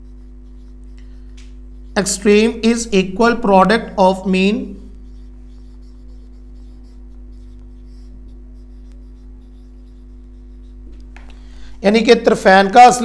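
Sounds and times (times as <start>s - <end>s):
marker scratching on whiteboard: 0.0s - 13.0s
steady electrical hum: 0.0s - 13.0s.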